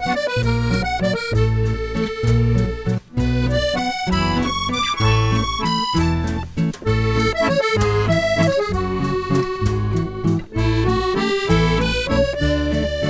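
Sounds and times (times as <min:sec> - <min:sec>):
accordion tune: 0:00.0 - 0:13.0
steady bass beat: 0:00.0 - 0:13.0.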